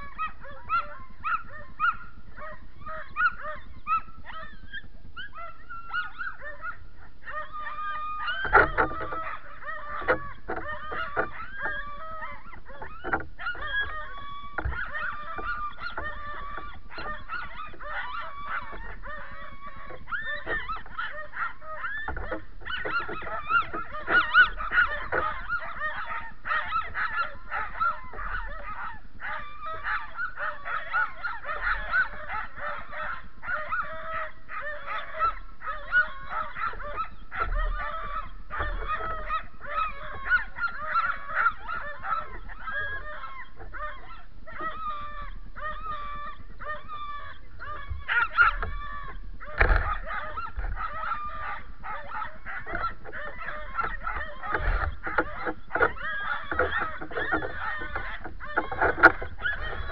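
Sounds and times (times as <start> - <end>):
sled dogs yelping and barking: 0.0 - 59.9.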